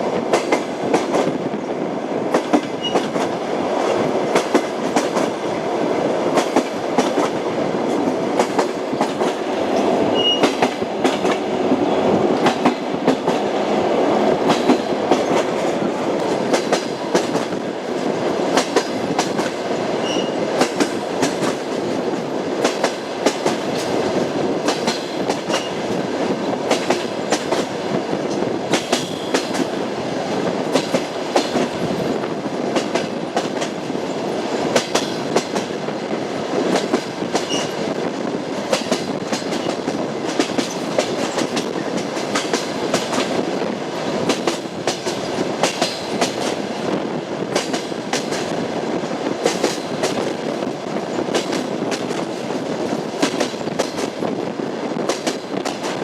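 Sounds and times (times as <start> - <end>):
train wheels rolling rumble: 0.0 - 56.0.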